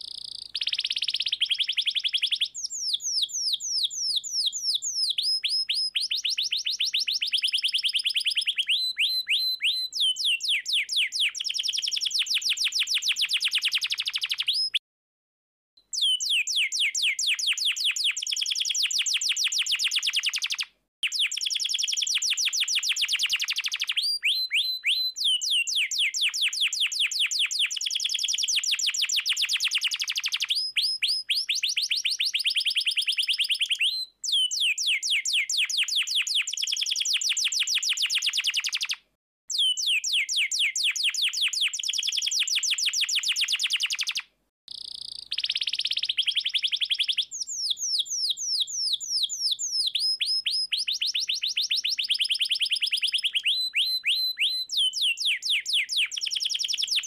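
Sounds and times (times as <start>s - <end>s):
canary singing trills: 0.0s - 14.8s, 15.9s - 57.0s.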